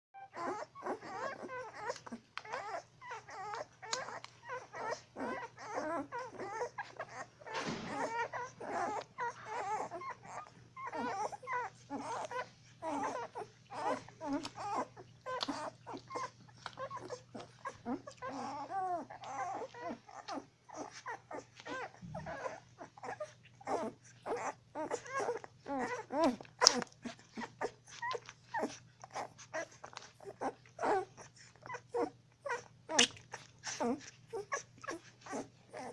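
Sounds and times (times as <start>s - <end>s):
puppies squeaking and whimpering: 0.2s - 35.9s.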